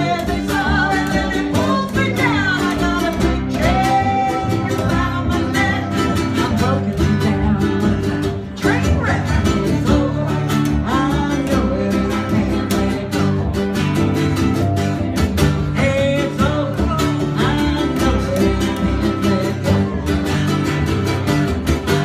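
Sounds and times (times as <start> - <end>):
song with guitar and singing: 0.0 - 22.0.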